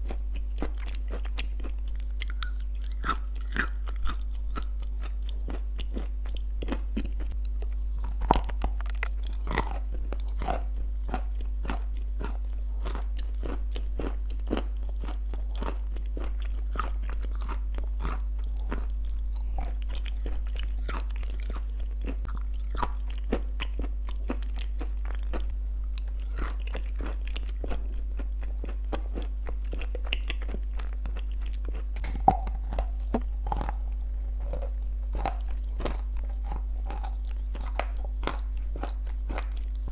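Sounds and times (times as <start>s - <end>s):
crunching and chewing: 0.0s - 39.9s
steady low hum: 0.0s - 39.9s.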